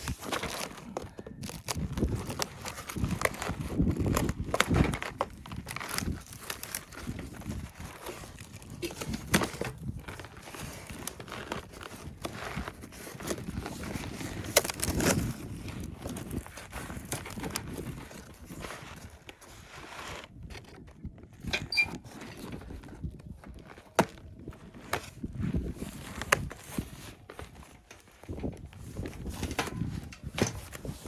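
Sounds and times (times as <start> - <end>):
material crinkling and rustling: 0.0 - 31.0.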